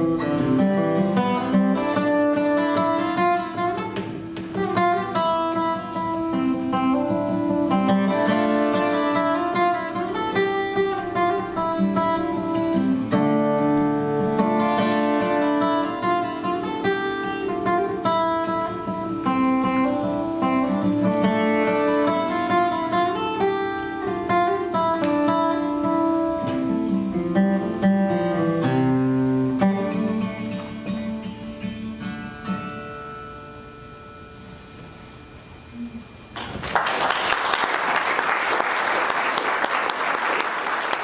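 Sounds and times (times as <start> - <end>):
solo acoustic guitar: 0.0 - 36.4.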